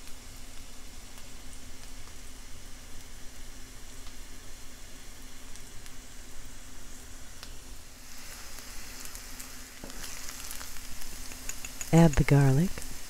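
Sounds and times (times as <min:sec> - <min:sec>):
onions sizzling in butter: 0:00.0 - 0:13.0.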